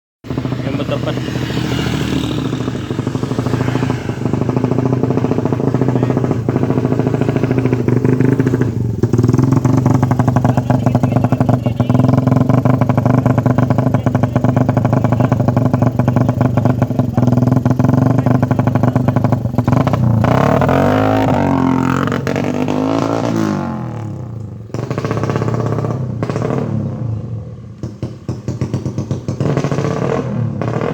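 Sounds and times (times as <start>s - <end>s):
motorbike engine running: 0.3s - 30.9s.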